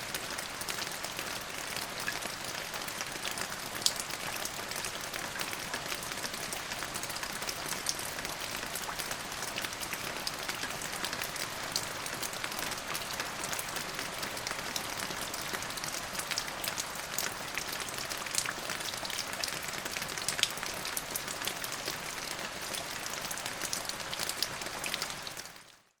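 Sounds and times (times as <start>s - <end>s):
raindrop ticks and splashes: 0.0s - 25.8s
steady rain falling: 0.0s - 26.0s.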